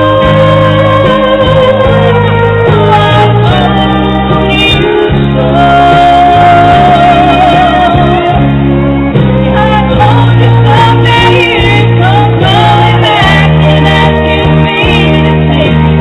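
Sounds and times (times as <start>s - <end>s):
instrumental music with strong bass: 0.0s - 16.0s
woman singing into a microphone: 0.0s - 16.0s.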